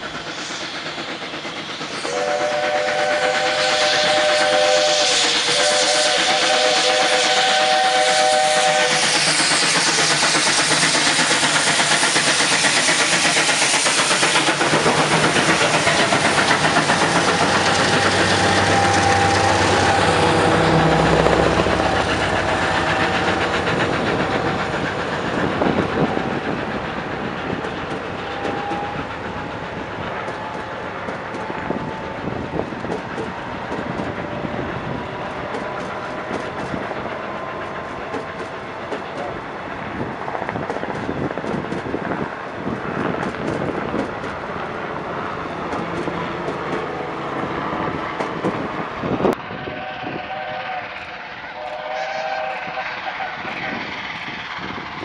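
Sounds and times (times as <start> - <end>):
steam locomotive exhaust rushing: 0.0 - 55.0
train wheels clicking over rail joints: 0.0 - 55.0.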